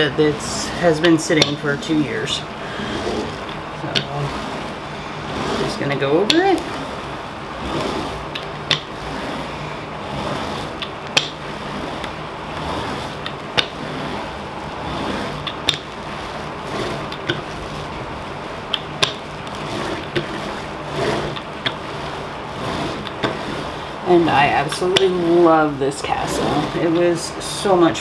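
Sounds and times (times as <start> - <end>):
hand roller gritty rolling: 0.0 - 28.0.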